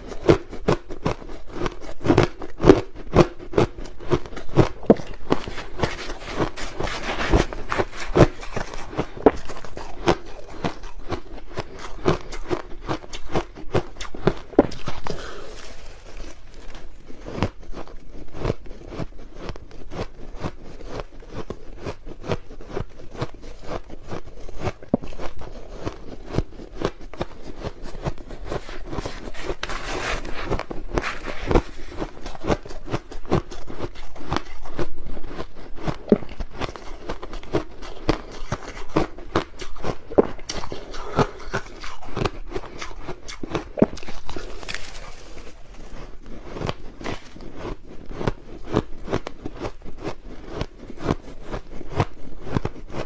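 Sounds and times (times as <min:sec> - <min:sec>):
crushed ice crunching in teeth: 0:00.0 - 0:53.0.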